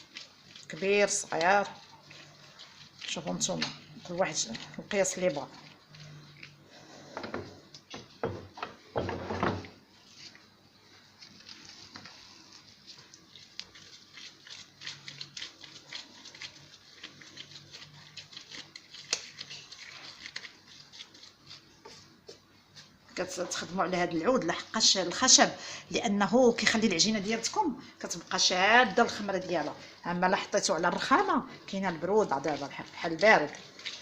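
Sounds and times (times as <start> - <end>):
dough squelching: 0.0 - 8.9, 9.7 - 34.0.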